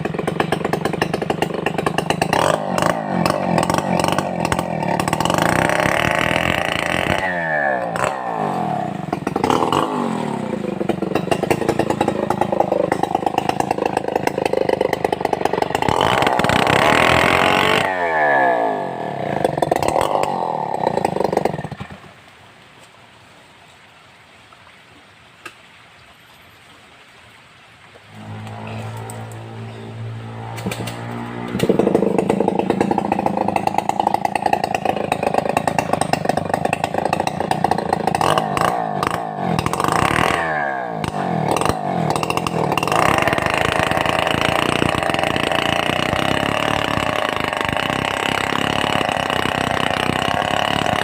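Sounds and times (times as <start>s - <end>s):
chainsaw sawing timber: 0.0s - 22.0s, 28.1s - 51.0s.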